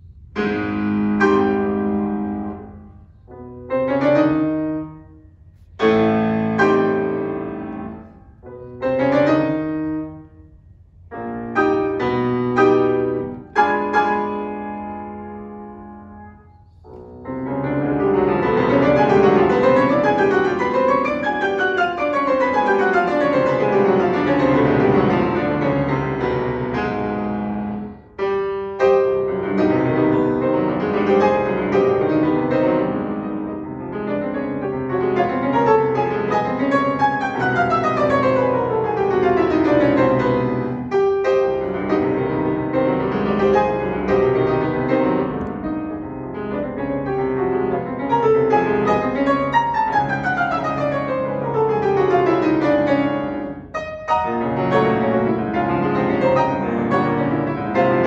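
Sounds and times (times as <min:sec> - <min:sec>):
grand piano played fast: 0:00.0 - 0:10.5, 0:11.1 - 0:58.0.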